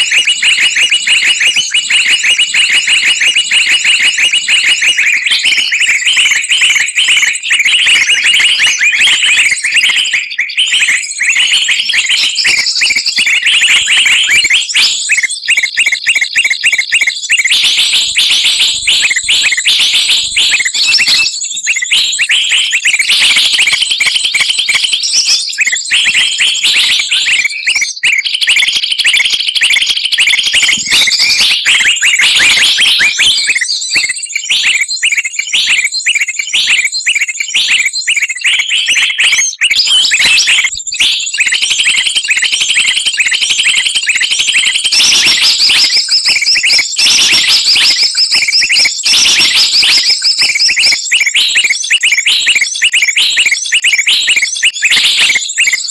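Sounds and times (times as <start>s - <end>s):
songbirds chattering and chirping: 0.0s - 55.9s.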